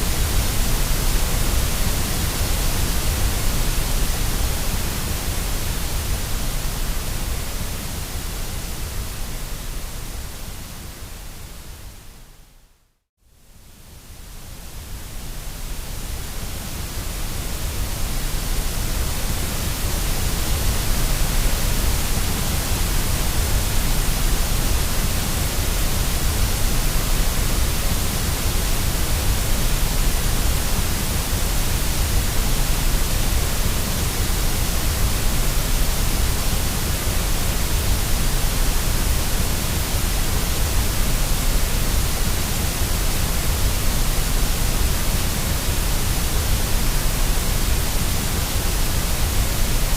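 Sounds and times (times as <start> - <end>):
white noise hiss: 0.0 - 49.9.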